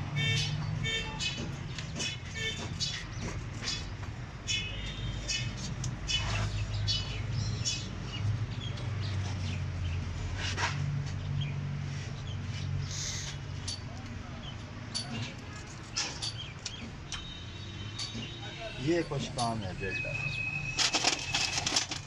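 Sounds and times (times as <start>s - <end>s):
small birds chirping: 0.2s - 10.4s, 11.1s - 20.8s.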